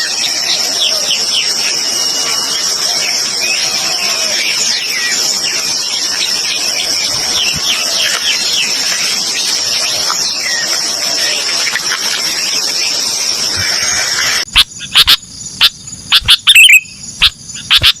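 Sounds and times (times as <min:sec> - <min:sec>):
bird chirps: 0:00.0 - 0:18.0
high-pitched insect chorus: 0:00.0 - 0:18.0.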